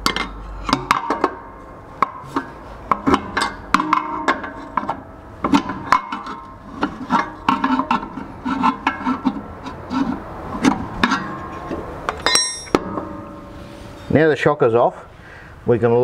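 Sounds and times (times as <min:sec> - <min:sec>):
metallic knocks and clanks: 0:00.0 - 0:14.1.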